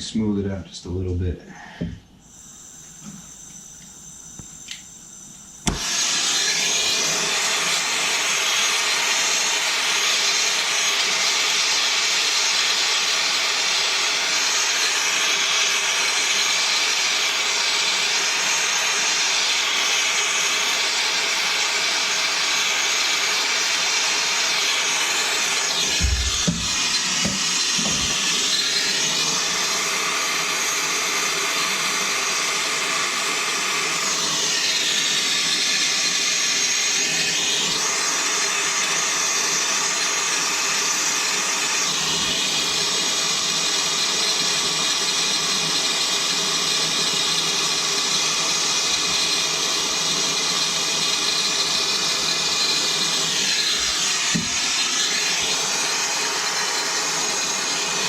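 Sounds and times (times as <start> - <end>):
gas torch hissing: 0.8 - 58.0.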